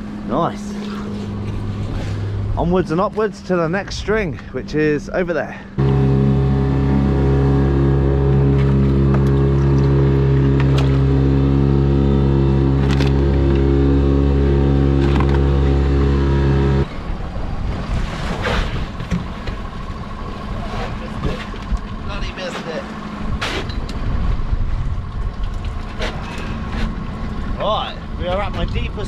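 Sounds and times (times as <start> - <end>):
boat engine droning: 0.0 - 29.0
rushing wind and water: 0.0 - 29.0.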